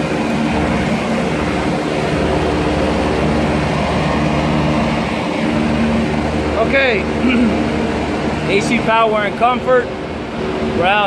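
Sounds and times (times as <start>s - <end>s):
fan air rushing: 0.0s - 11.0s
low machine hum: 0.0s - 11.0s.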